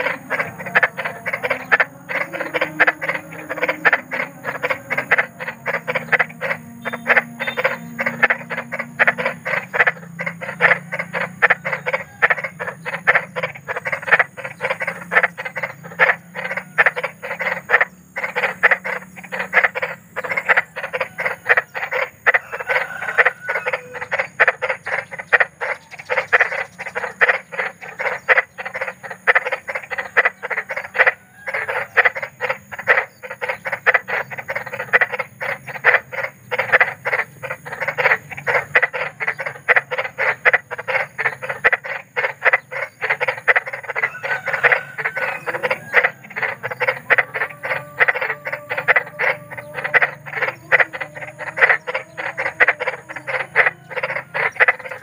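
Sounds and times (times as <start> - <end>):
faint low hum: 0.0 - 55.0
frogs croaking: 0.0 - 55.0.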